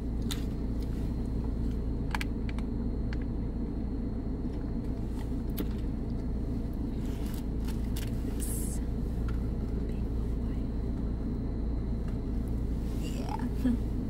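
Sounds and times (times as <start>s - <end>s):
low rumble inside car: 0.0s - 14.0s.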